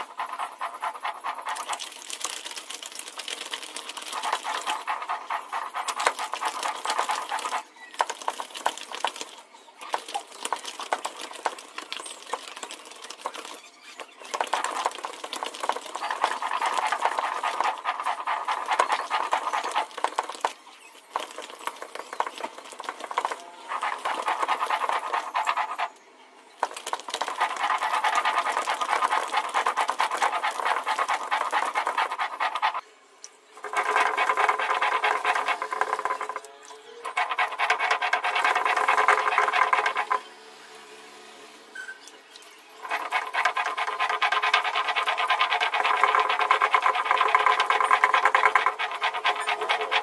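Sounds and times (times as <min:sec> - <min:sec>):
stone grinding on stone: 0:00.0 - 0:25.9, 0:26.6 - 0:32.8, 0:33.6 - 0:36.5, 0:37.1 - 0:40.3, 0:42.8 - 0:50.0.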